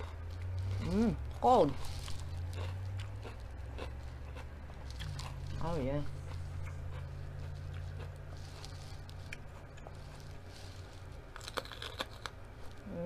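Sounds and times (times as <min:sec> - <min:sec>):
teeth crunching a pepper: 0:00.0 - 0:12.9
low steady hum: 0:00.0 - 0:13.0.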